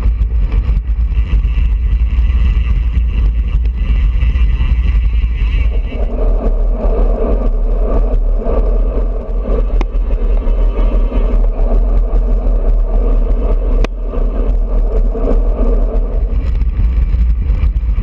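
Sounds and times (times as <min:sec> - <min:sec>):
mid-pitched drone: 0:00.0 - 0:18.0
wind buffeting microphone: 0:00.0 - 0:18.0.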